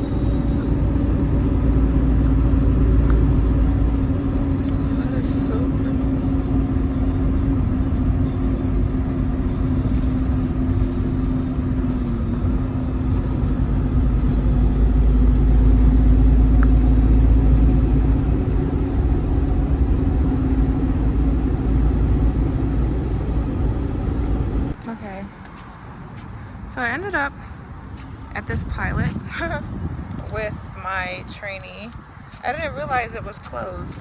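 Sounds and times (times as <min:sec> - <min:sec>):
truck engine rumbling: 0:00.0 - 0:34.0.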